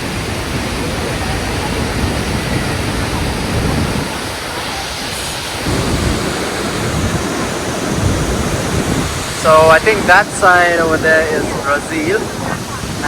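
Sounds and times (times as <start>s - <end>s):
waterfall roaring: 0.0s - 13.0s
wind rumbling on microphone: 0.0s - 13.0s.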